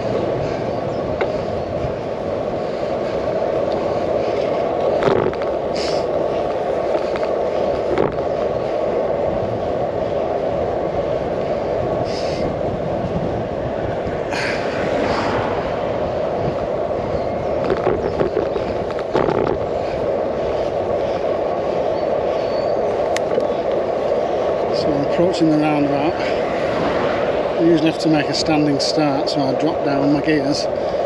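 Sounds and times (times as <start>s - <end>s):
bicycle rattles: 0.0s - 31.0s
road and wind rumble: 0.0s - 31.0s.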